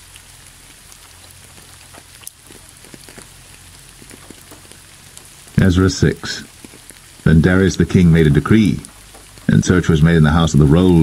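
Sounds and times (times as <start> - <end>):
raindrops ticking: 0.0 - 11.0
steady rain hiss: 0.0 - 11.0.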